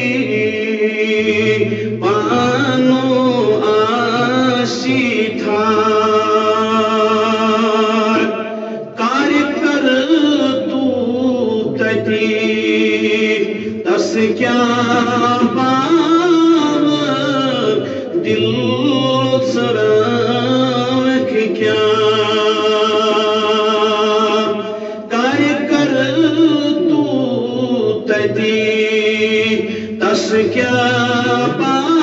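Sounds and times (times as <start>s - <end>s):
man singing devotional song: 0.0s - 32.0s.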